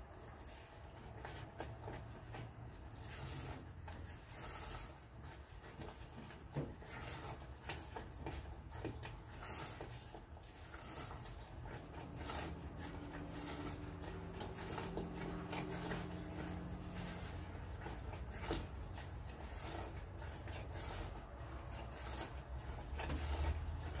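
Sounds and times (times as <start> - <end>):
spatula scraping a saucepan: 0.2 - 24.0.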